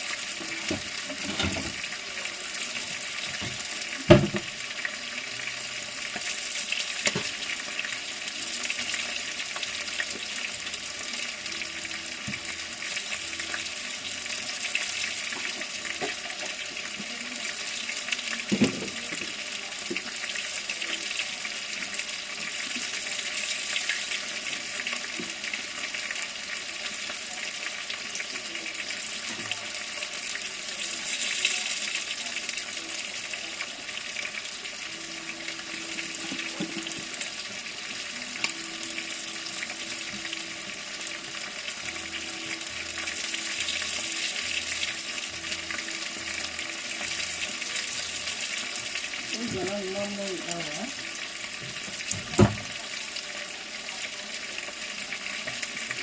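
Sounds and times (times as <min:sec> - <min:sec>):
steady kitchen hiss: 0:00.0 - 0:56.0.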